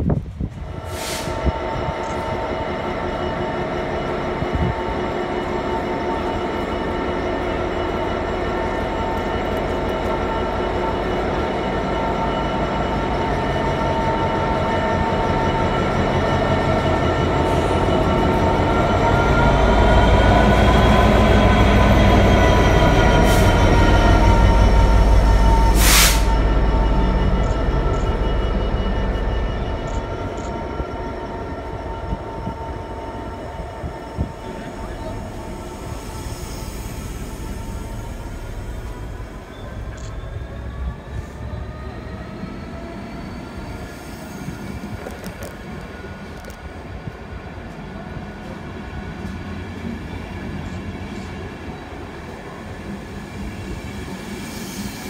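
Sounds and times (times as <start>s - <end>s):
diesel locomotive engine rumble: 0.0s - 55.0s.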